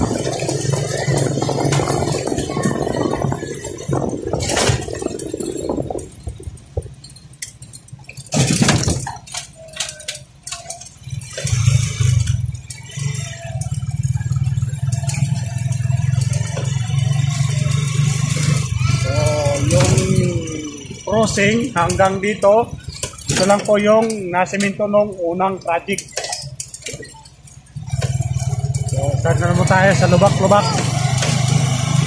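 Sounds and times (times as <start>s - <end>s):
motorcycle engine low drone: 0.0s - 32.0s
motorcycle riding rushing noise: 0.0s - 32.0s.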